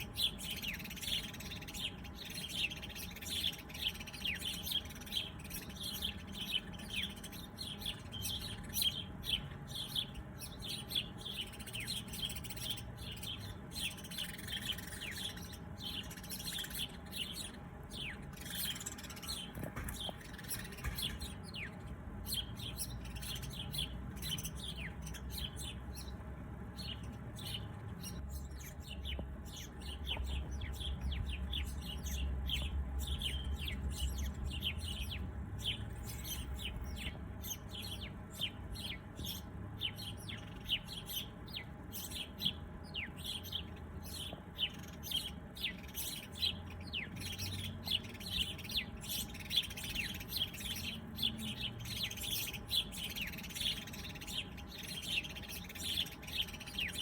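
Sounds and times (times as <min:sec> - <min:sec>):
low steady rumble: 0:00.0 - 0:57.0
small birds chirping: 0:00.0 - 0:57.0.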